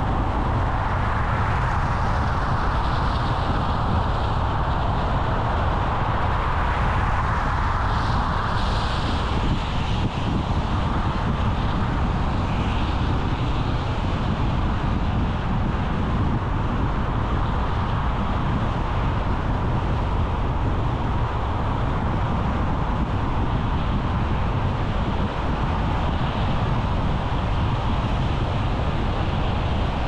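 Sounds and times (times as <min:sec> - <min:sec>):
car road and tyre noise: 0:00.0 - 0:30.0.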